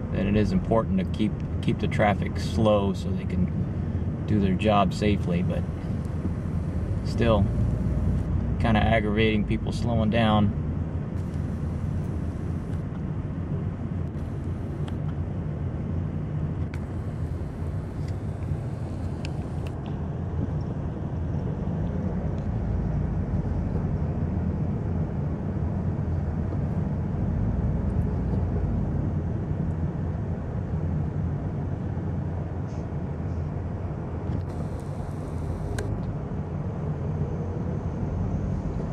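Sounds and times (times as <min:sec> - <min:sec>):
engine and tyre rumble in cabin: 0:00.0 - 0:38.9.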